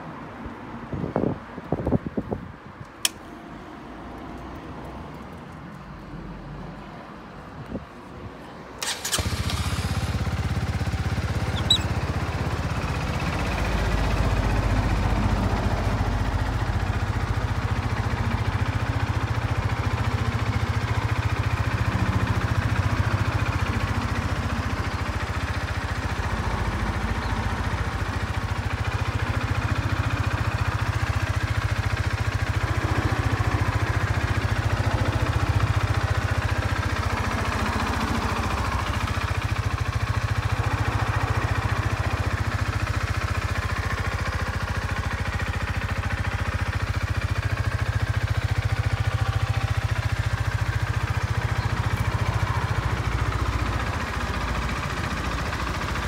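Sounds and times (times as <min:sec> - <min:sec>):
motorcycle engine idling: 0:08.8 - 0:56.0.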